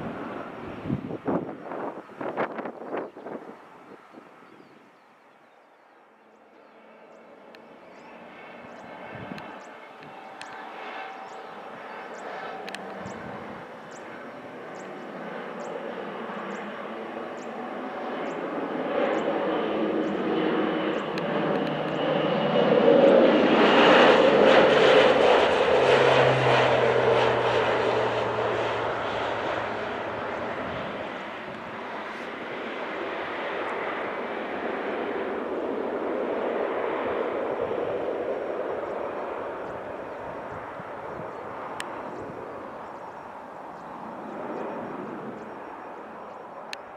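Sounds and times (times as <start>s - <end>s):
turboprop plane passing low: 0.0s - 46.9s.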